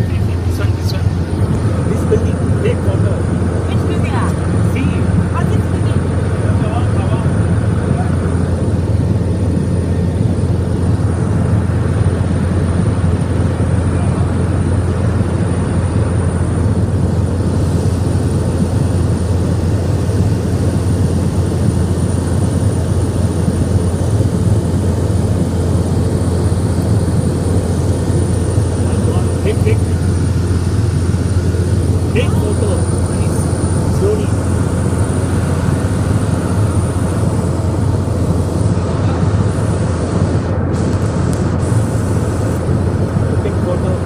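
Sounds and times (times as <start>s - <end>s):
propeller engine drone in cabin: 0.0s - 44.0s.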